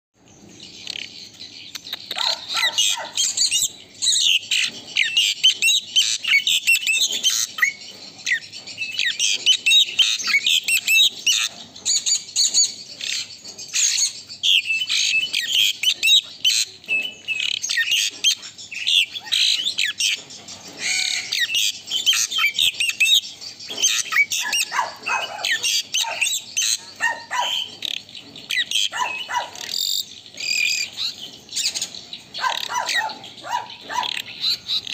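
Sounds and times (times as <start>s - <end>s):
starling singing: 0.3s - 34.9s.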